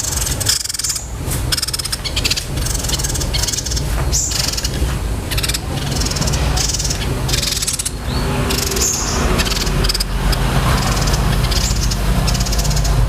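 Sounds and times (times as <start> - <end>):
songbird rapid rolling trills: 0.0 - 13.0
steady low hum: 0.0 - 13.0.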